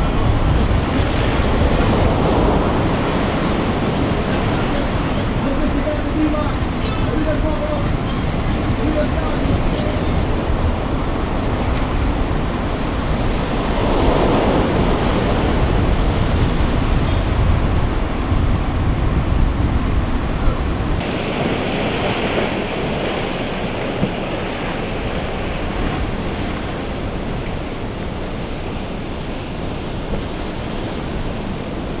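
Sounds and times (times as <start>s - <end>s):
surf breaking on shore: 0.0s - 32.0s
wind rumbling on microphone: 0.0s - 32.0s.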